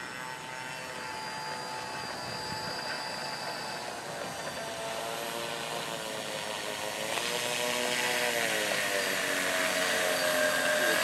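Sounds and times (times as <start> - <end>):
electric motors and propellers whirring: 0.0 - 11.0.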